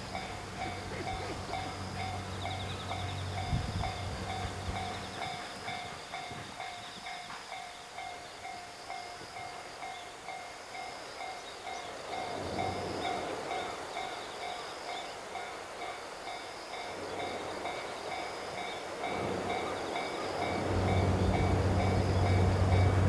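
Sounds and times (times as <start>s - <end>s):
level-crossing warning bell ringing: 0.0s - 23.0s.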